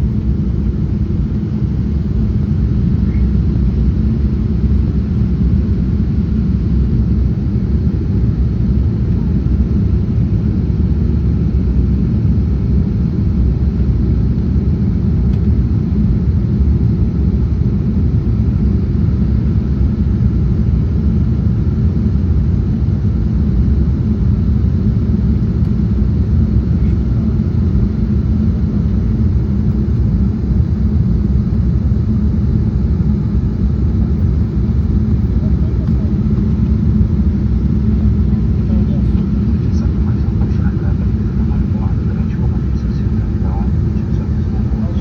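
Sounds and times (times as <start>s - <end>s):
airliner cabin drone: 0.0s - 45.0s.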